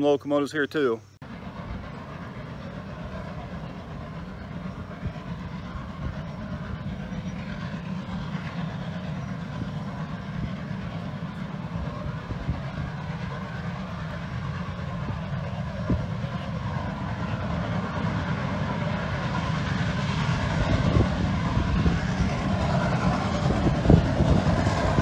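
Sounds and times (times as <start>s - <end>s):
steam locomotive rumbling: 1.2s - 25.0s.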